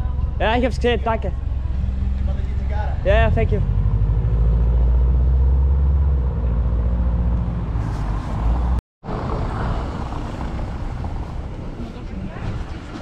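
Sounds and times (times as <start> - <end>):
street noise: 0.0 - 13.0
car engine pulling away: 1.4 - 13.0.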